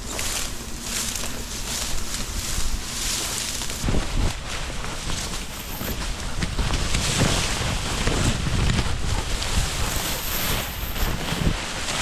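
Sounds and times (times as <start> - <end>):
dry grass and reeds rustling: 0.0 - 12.0
wind noise on microphone: 0.0 - 12.0.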